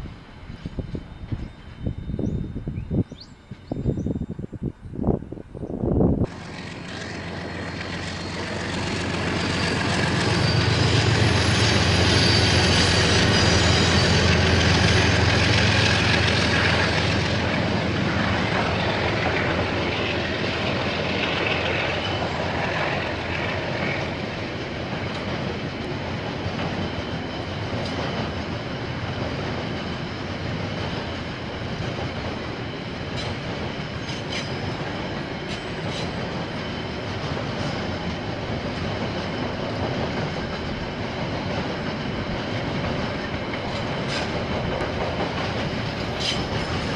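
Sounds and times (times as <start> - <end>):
diesel locomotive engine hum: 0.0 - 46.9.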